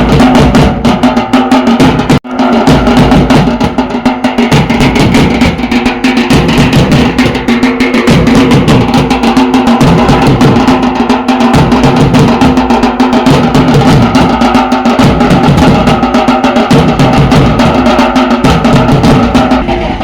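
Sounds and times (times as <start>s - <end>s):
loud fast drumming: 0.0s - 20.0s.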